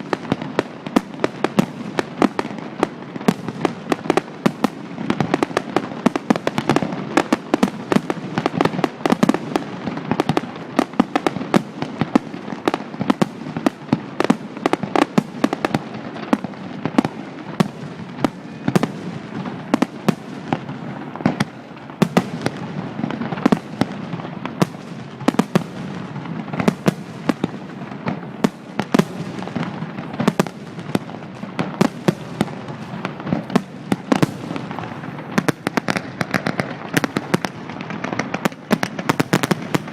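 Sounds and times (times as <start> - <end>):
fireworks bursting and banging: 0.0 - 39.9.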